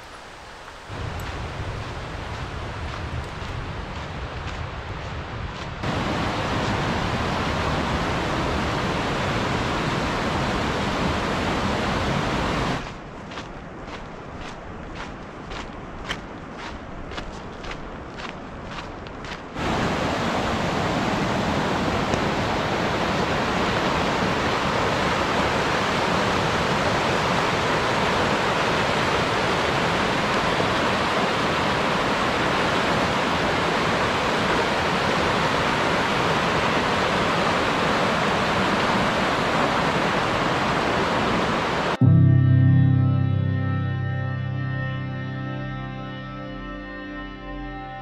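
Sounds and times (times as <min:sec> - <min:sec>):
creek rushing over rocks: 0:00.0 - 0:42.0.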